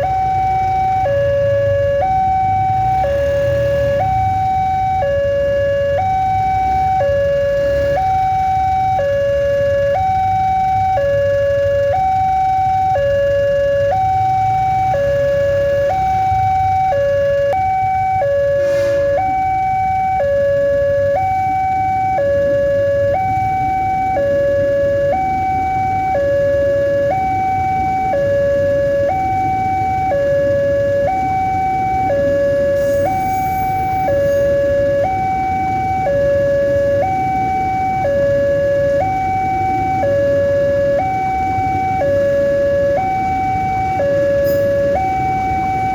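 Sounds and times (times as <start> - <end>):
two-tone warning siren: 0.0 - 45.9.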